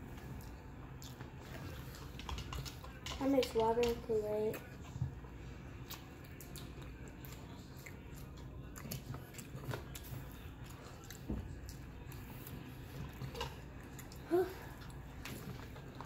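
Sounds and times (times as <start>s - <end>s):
person chewing and crunching: 0.0s - 3.2s, 5.8s - 16.0s.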